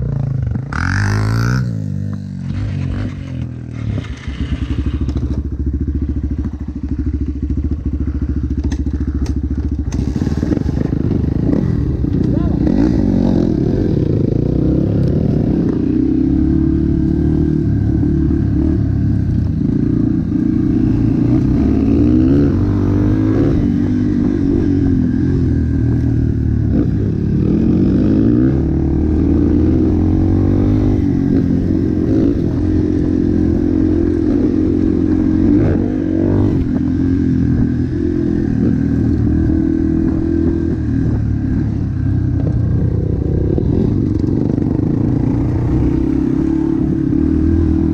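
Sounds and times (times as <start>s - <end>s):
motocross bike engine revving: 7.2s - 41.7s, 42.7s - 47.9s.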